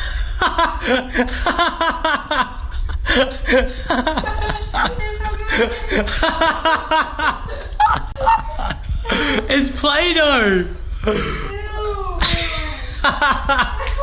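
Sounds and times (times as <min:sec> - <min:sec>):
people laughing: 0:00.0 - 0:09.6, 0:12.2 - 0:14.0.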